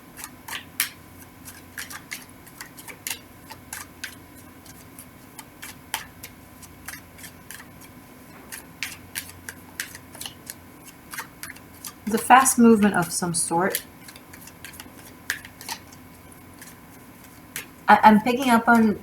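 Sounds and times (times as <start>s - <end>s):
cards being shuffled by hand: 0.2s - 19.0s.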